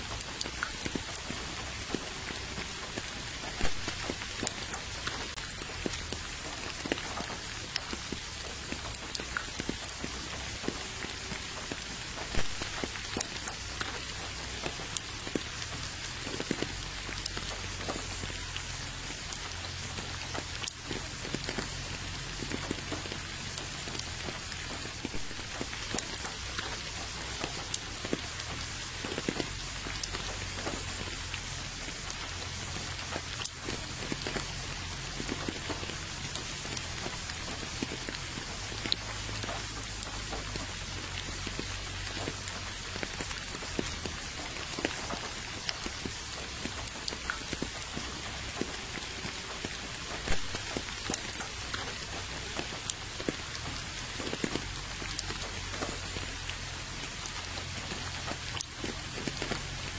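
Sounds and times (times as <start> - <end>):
rain falling into a puddle: 0.0 - 59.9.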